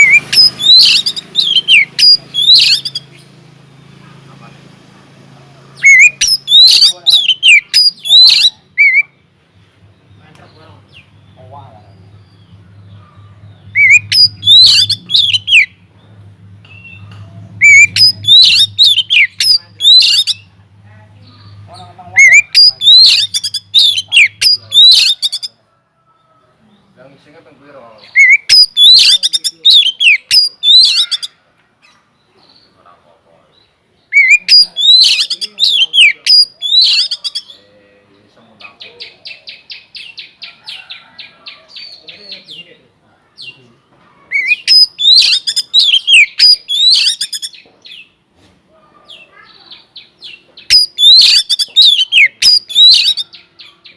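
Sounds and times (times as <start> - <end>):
magpie-robin singing: 0.0 - 4.0, 5.6 - 9.2, 9.8 - 20.6, 21.2 - 25.6, 27.8 - 32.9, 33.5 - 37.7, 38.4 - 42.8, 43.4 - 48.2, 49.0 - 53.9.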